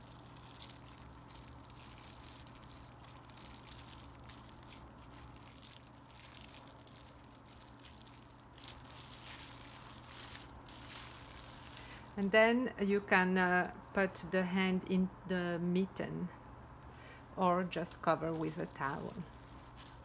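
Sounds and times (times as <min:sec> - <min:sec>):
plastic bag crinkling: 0:00.0 - 0:14.2, 0:17.5 - 0:20.0
low steady hum: 0:00.0 - 0:20.0.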